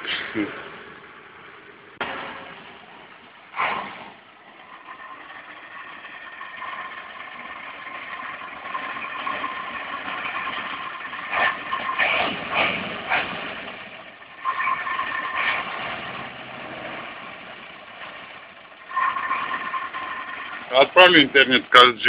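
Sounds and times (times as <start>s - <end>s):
engine running with faint whine: 0.0s - 22.0s.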